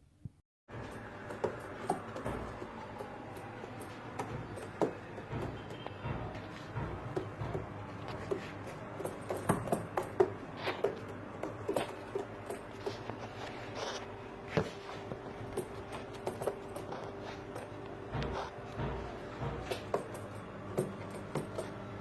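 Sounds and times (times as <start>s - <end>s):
pigeons pattering and scuffling: 0.8s - 22.0s.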